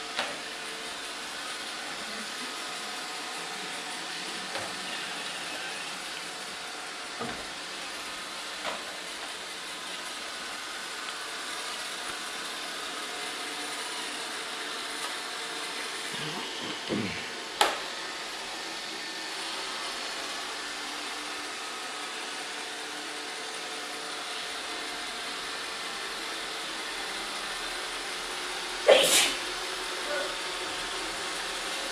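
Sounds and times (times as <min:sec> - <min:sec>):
robot vacuum humming: 0:00.0 - 0:31.9.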